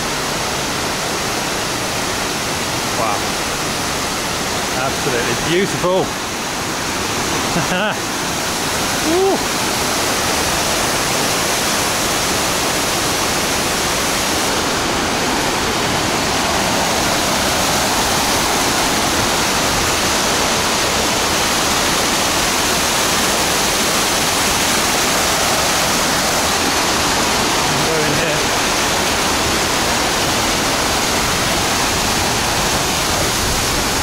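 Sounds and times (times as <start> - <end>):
waterfall rushing over boulders: 0.0 - 34.0.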